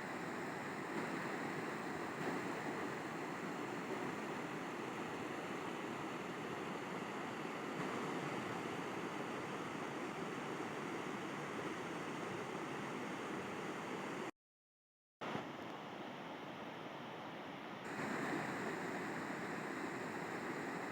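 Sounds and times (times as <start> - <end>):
river water rushing: 0.0 - 14.2, 17.9 - 20.9.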